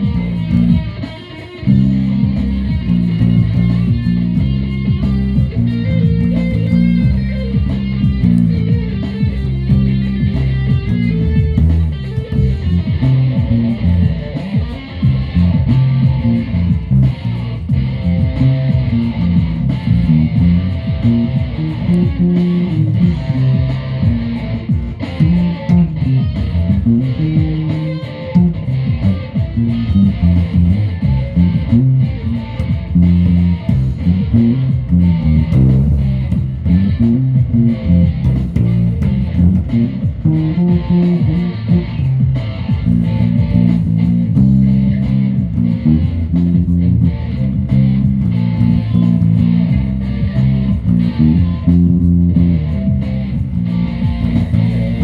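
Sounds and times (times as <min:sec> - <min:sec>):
bass line: 0:00.0 - 0:55.0
plucked and strummed guitar: 0:00.0 - 0:55.0.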